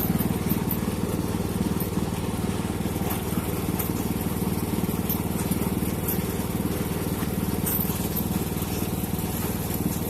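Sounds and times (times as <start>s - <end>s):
mower engine running steadily: 0.0s - 10.0s.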